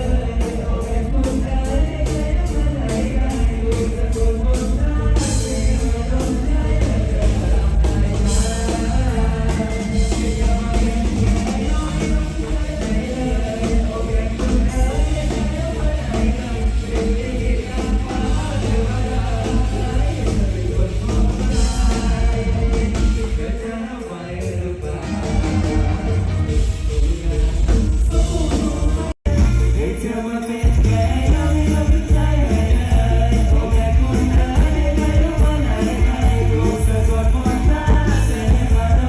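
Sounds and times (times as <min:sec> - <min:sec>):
drum and bass beat: 0:00.0 - 0:39.0
live band with singer: 0:00.0 - 0:39.0.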